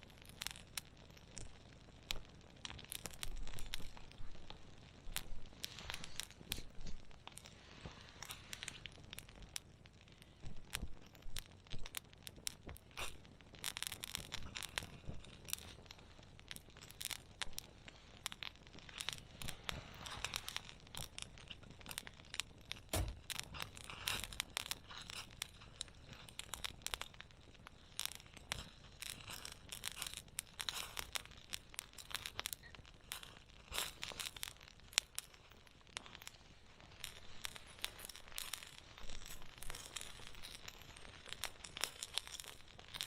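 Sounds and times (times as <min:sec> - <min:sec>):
campfire crackling: 0:00.0 - 0:43.0
sharp pops and snaps: 0:00.0 - 0:43.0
soft steady hiss: 0:00.0 - 0:43.0.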